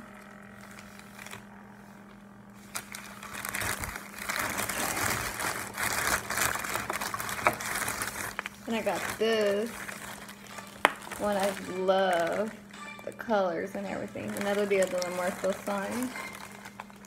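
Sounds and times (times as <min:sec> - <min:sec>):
plastic bag crinkling and rustling: 0:00.0 - 0:17.0.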